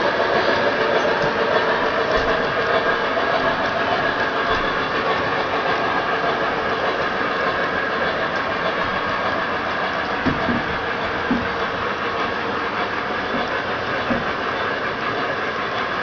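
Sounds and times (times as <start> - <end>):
metal wheels rumbling on rail: 0.0 - 16.0.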